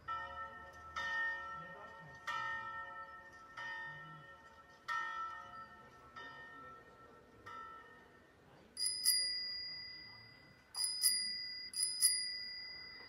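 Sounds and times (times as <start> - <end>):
recorded bell strikes ringing: 0.0 - 13.0.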